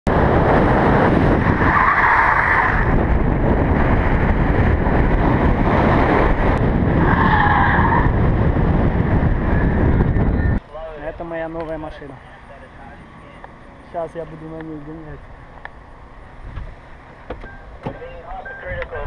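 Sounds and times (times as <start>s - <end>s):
car engine and road noise: 0.1s - 19.0s.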